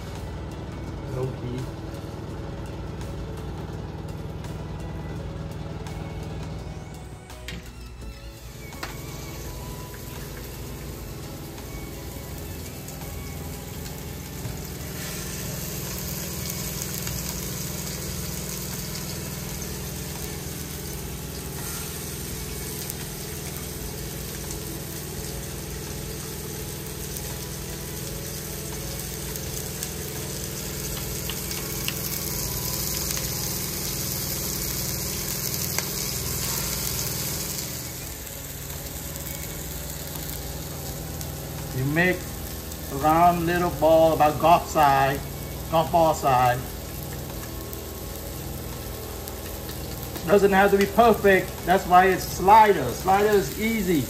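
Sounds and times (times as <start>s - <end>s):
steady low hum: 0.0s - 54.0s
meat sizzling in a frying pan: 8.6s - 54.0s.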